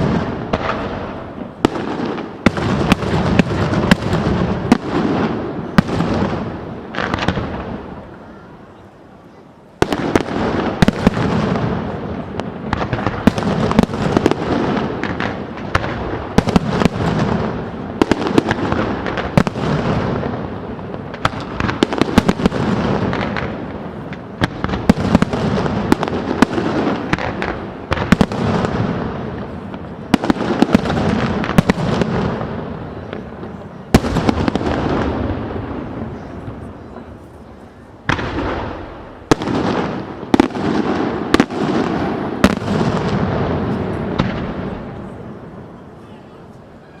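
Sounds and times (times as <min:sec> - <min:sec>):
fireworks bursting and booming: 0:00.0 - 0:47.0.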